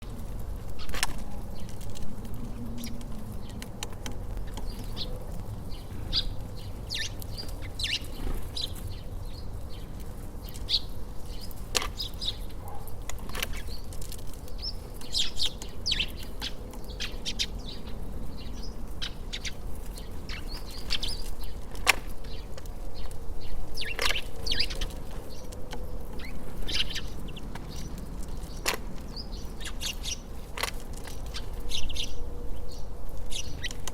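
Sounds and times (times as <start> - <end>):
low outdoor rumble: 0.0 - 33.9
small birds chirping: 0.0 - 33.9.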